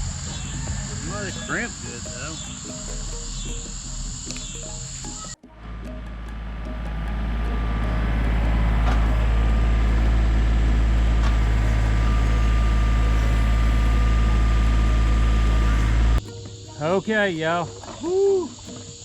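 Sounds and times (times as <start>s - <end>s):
diesel tractor engine rumbling: 0.0s - 19.0s.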